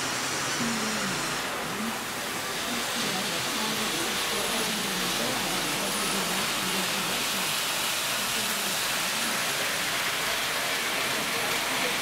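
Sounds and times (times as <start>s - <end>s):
model trains running on track: 0.0s - 12.0s.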